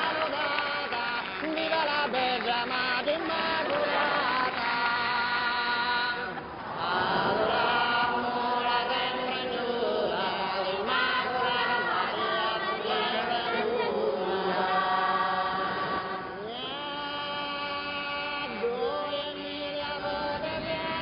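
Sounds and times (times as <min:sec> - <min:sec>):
crowd singing a hymn: 0:00.0 - 0:21.0.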